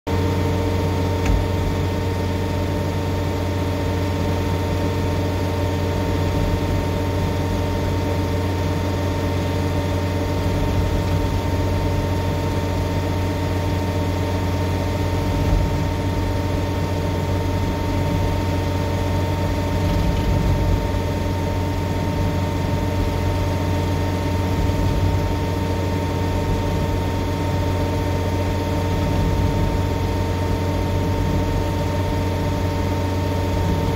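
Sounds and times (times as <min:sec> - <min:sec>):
diesel engine and hydraulics running: 0:00.1 - 0:33.9.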